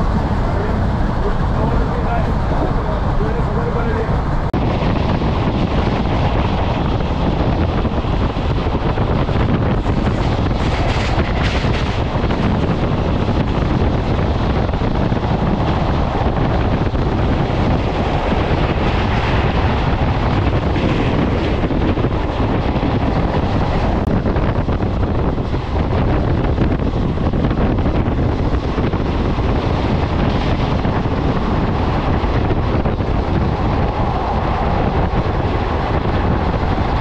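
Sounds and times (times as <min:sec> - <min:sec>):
moving train rumble: 0:00.0 - 0:37.0
wind buffeting microphone: 0:00.0 - 0:37.0.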